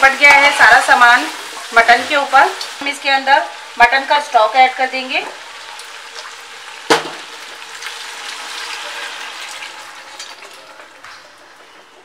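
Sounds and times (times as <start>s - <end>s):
stock pouring and sizzling: 0.0s - 12.0s.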